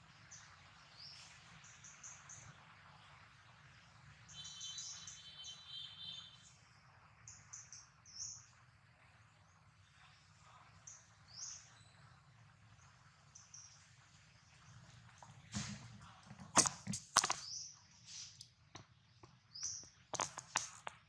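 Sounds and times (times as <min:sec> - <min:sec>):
small birds chirping: 0:00.0 - 0:03.4, 0:04.2 - 0:06.6, 0:07.2 - 0:08.6, 0:09.4 - 0:21.0.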